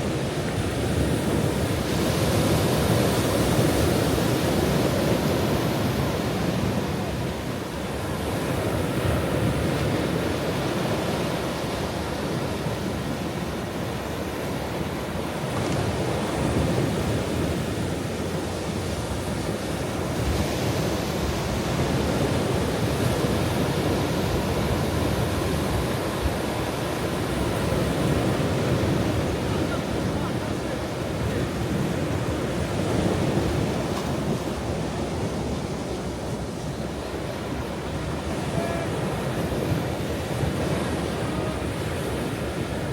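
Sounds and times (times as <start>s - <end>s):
ocean waves breaking on shore: 0.0s - 42.9s.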